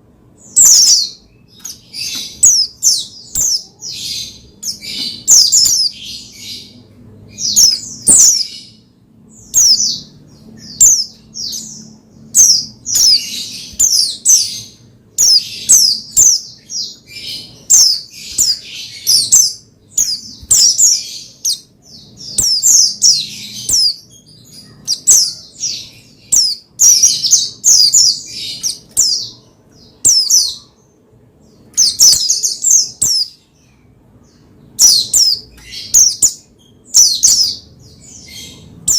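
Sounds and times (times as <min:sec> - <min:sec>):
bird singing high chirps: 0:00.4 - 0:30.9, 0:31.6 - 0:38.9.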